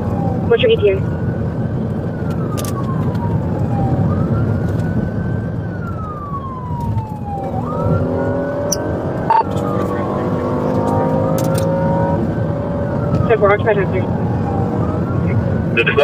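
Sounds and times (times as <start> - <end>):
car engine and road noise: 0.0 - 16.0
police siren wailing: 0.0 - 16.0.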